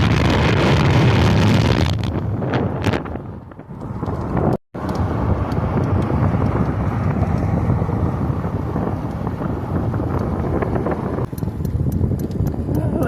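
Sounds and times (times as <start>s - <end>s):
tyre and road noise: 0.0s - 13.0s
wind on microphone: 0.0s - 13.0s.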